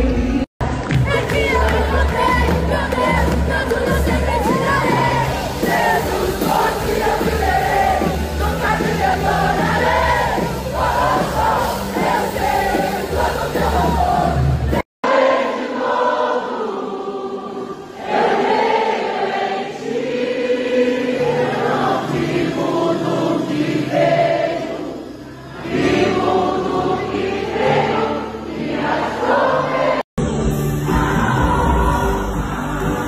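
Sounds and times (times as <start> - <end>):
crowd singing with band: 0.0 - 33.0.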